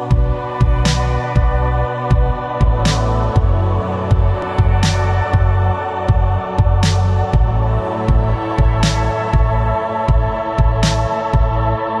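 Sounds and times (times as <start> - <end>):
kick-drum beat: 0.1 - 11.8.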